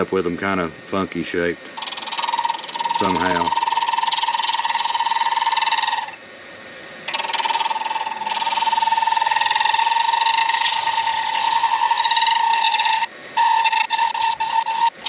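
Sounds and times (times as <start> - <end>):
lathe tool cutting with chatter: 1.8 - 6.2, 7.1 - 15.0.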